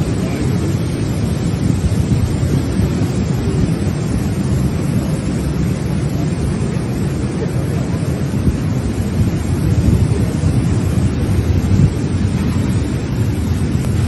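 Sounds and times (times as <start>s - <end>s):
motorcycle engine and road noise: 0.0s - 14.0s
wind buffeting microphone: 0.0s - 14.0s.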